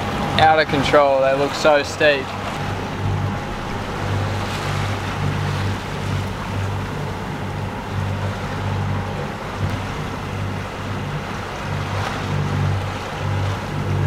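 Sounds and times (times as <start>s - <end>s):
low rumble: 0.0s - 14.0s
water and wind rushing along hull: 0.0s - 14.0s.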